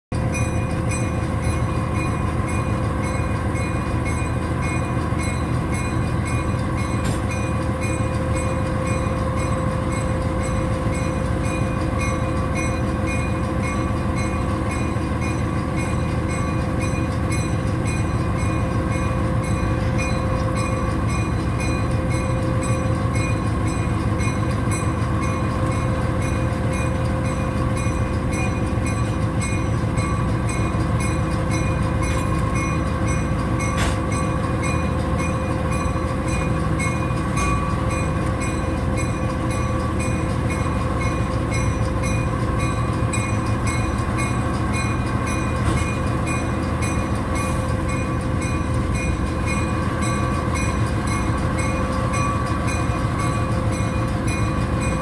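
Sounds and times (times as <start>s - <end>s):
locomotive engine drone: 0.1s - 55.0s.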